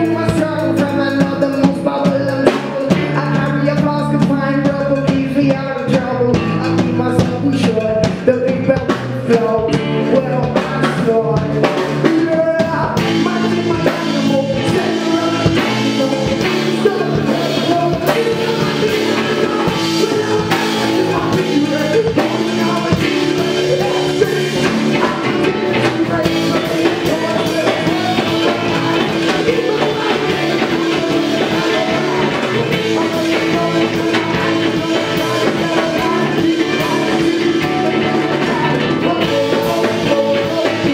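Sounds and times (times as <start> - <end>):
drum kit: 0.0 - 40.9
electric guitars: 0.0 - 40.9
male singer: 0.0 - 40.9.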